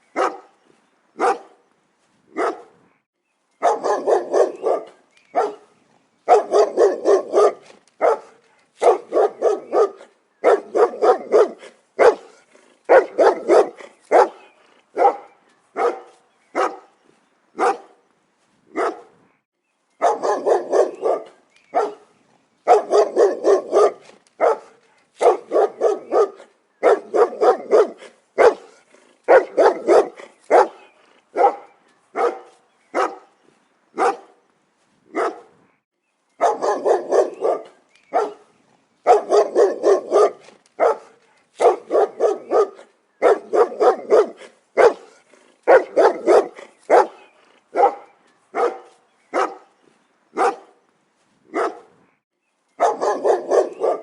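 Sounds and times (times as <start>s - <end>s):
dog barking: 0.1s - 0.5s, 1.2s - 1.6s, 2.3s - 2.8s, 3.6s - 5.7s, 6.3s - 16.9s, 17.6s - 18.0s, 18.7s - 19.1s, 20.0s - 33.3s, 34.0s - 34.4s, 35.1s - 35.6s, 36.4s - 49.7s, 50.4s - 50.8s, 51.5s - 52.0s, 52.8s - 54.0s.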